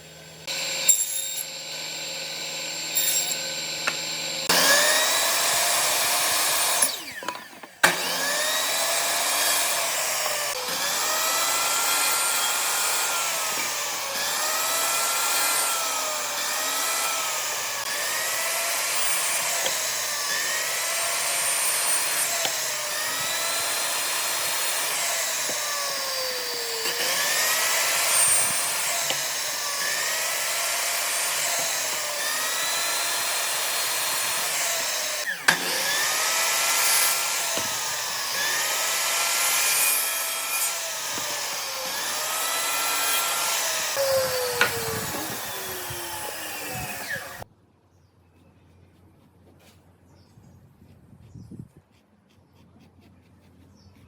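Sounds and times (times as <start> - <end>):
power tool working wood: 0.0 - 47.5.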